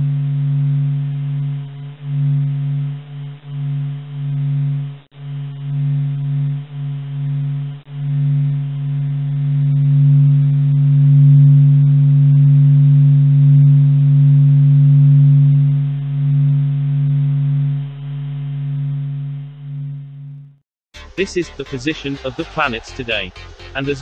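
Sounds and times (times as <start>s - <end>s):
low pulsing hum: 0.0s - 24.0s.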